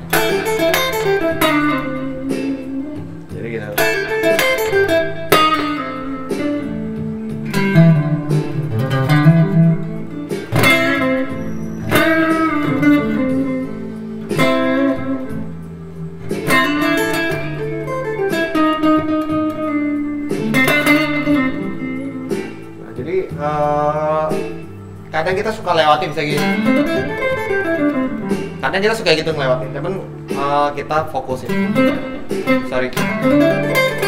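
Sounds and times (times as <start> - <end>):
blues backing track with bass: 0.0 - 34.0
electric guitar blues licks: 0.0 - 34.0.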